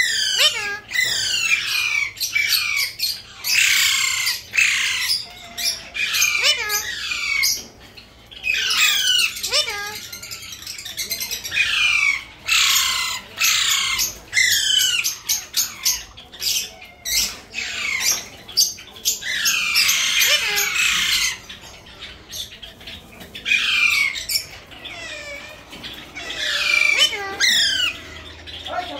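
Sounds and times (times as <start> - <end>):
parakeets squawking: 0.0 - 28.9.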